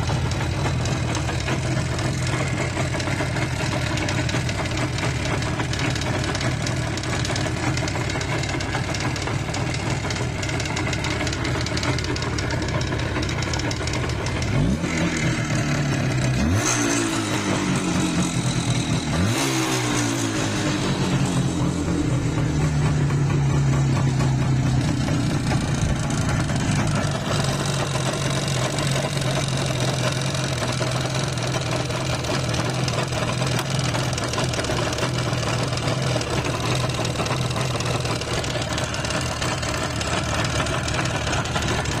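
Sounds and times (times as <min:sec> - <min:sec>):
two-stroke motorcycle idling: 0:00.0 - 0:42.0.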